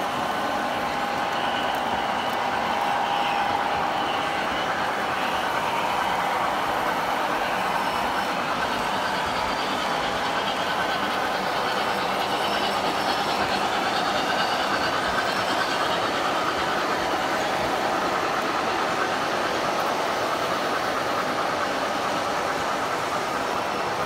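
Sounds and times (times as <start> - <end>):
model train wheels rumbling on track: 0.0 - 24.0.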